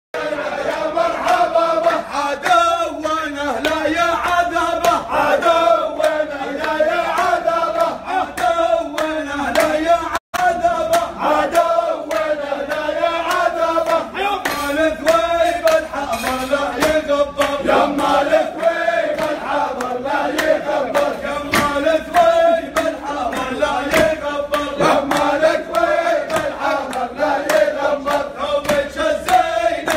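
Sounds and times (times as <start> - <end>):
men singing together: 0.2 - 29.9
rhythmic hand clapping: 0.2 - 29.9.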